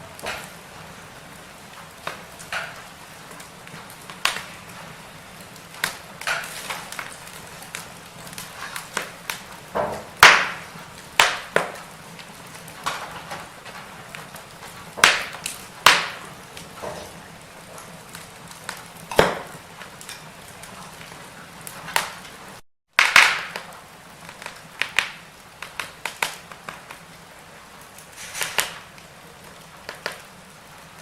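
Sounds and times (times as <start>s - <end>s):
fire hissing: 0.0s - 31.0s
firewood crackling and popping: 0.0s - 31.0s.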